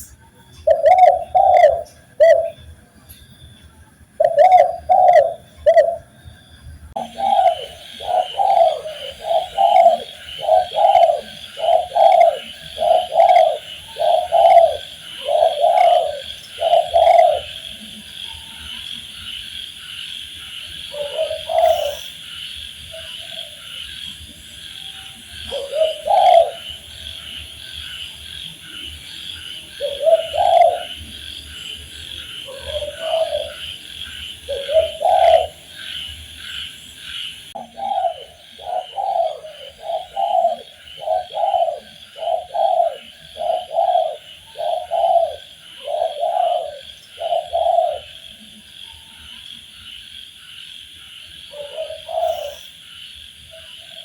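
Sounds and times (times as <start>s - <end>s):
dove cooing: 0.0s - 2.7s, 4.2s - 6.1s, 7.0s - 19.3s, 20.4s - 48.6s, 51.5s - 52.7s.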